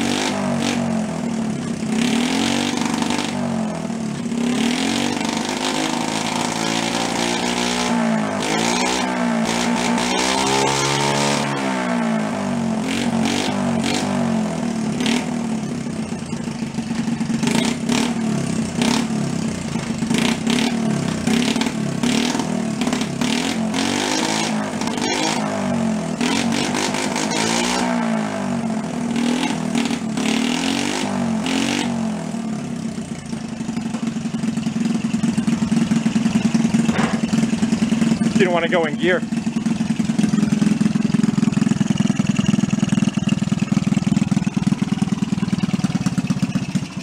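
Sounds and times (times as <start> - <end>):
small bike engine revving: 0.0 - 47.0.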